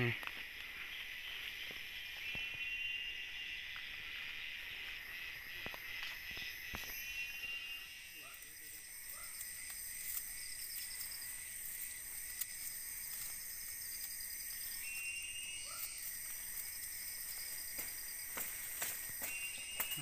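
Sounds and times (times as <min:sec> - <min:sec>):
insects chorus: 0:00.0 - 0:20.0
pulsing insect trills: 0:00.0 - 0:20.0.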